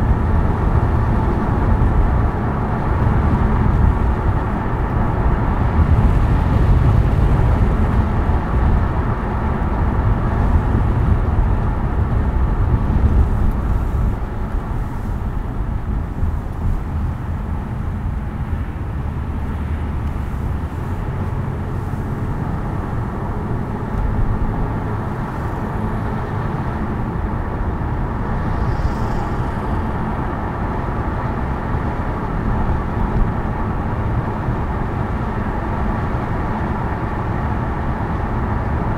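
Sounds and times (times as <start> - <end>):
car road noise rumble: 0.0 - 38.9.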